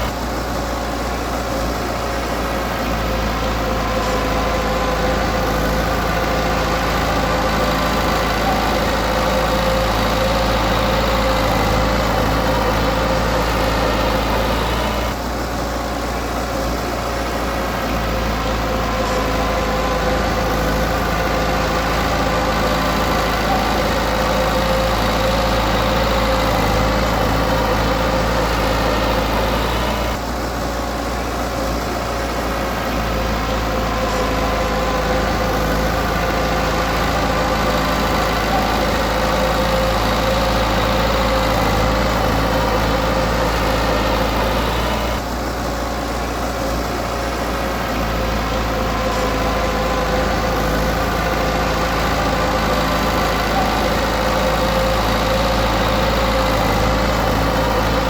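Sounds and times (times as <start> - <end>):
bulldozer diesel engine whining: 0.0 - 58.0.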